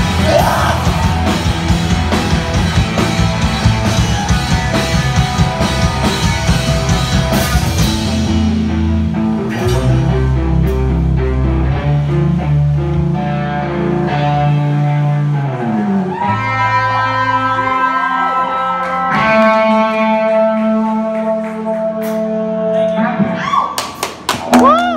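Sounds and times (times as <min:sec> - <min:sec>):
ringing guitar and bass notes: 0:00.0 - 0:23.7
live pop-punk band: 0:00.0 - 0:24.9.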